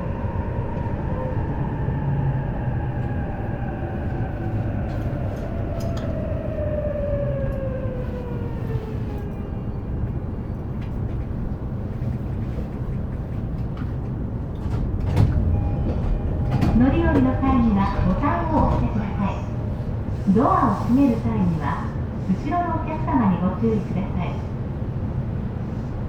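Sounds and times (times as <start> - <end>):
stopped train hum: 0.0 - 26.0
train car rumble: 0.0 - 26.0.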